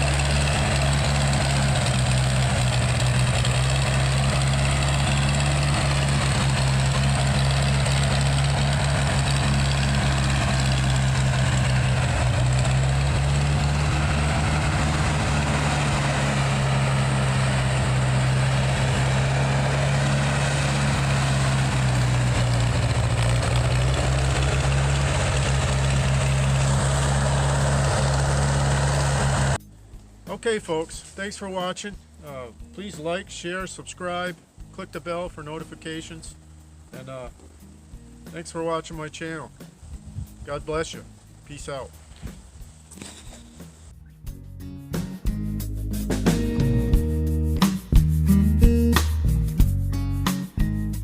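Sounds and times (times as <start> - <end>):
engine idling: 0.0 - 44.1.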